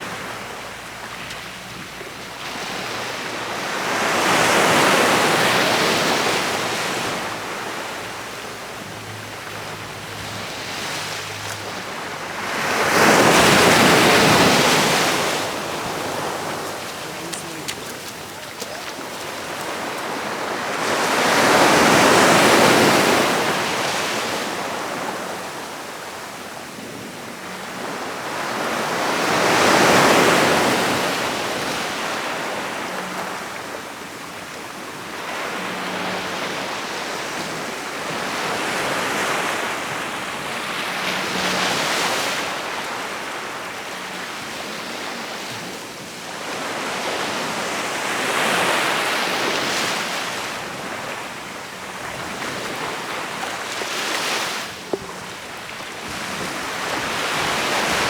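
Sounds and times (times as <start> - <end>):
ocean waves breaking: 0.0 - 33.8, 34.8 - 58.0.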